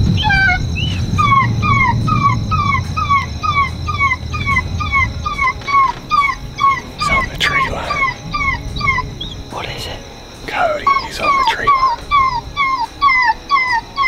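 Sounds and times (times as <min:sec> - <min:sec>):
electronic whimpering squeal: 0:00.0 - 0:14.0.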